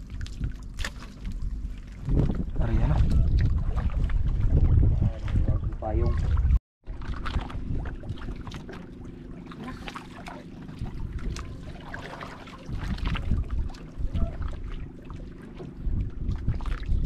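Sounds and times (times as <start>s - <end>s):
water lapping against boat hull: 0.0s - 17.0s
wind buffeting microphone: 1.3s - 8.7s, 10.6s - 17.0s.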